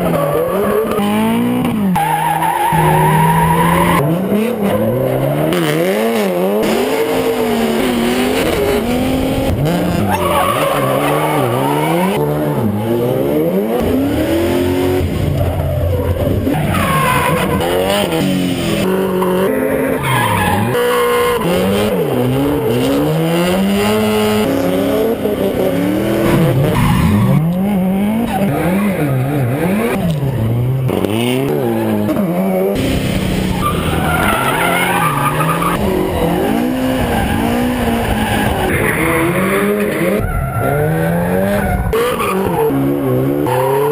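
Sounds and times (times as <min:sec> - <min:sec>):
high-revving car engines: 0:00.0 - 0:43.9
tyres squealing and skidding: 0:00.0 - 0:43.9.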